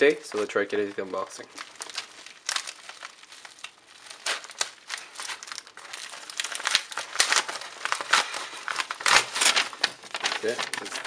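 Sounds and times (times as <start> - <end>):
envelope crinkling and rustling: 0.0 - 11.0
sharp crackles: 0.0 - 11.0.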